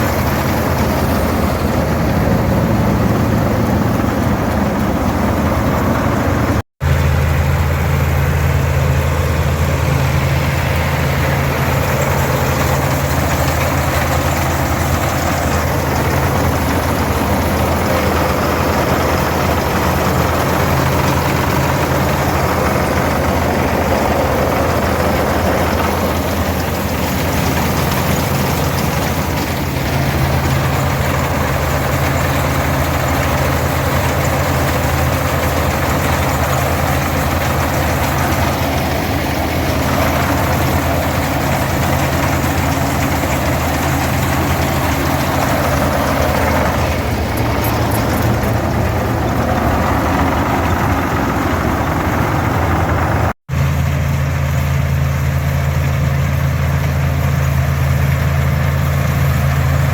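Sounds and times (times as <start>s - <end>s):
combine threshing machinery rush: 0.0s - 59.9s
tractor diesel engine running: 0.0s - 59.9s.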